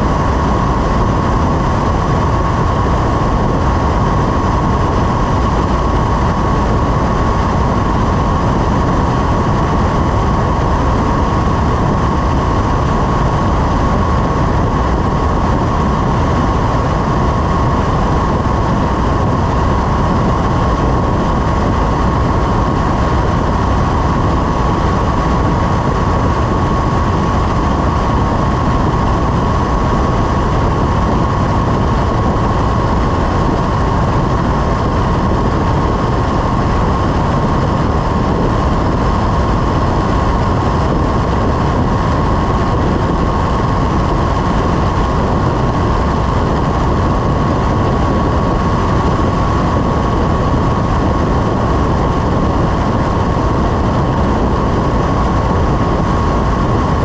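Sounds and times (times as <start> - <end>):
high whine: 0.0 - 57.0
small aircraft engine drone: 0.0 - 57.0.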